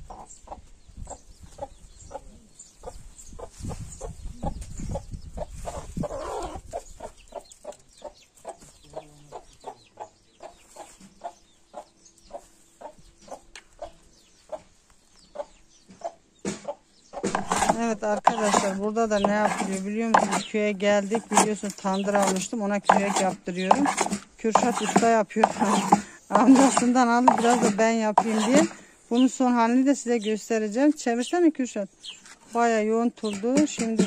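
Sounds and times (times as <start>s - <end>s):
hen clucking: 0.0s - 29.4s.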